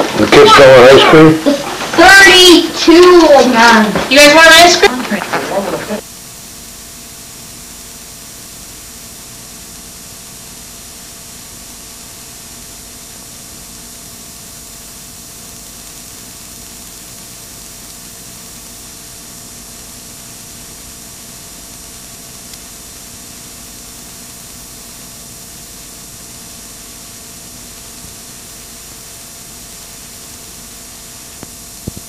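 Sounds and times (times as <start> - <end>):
tape hiss: 0.0 - 32.0.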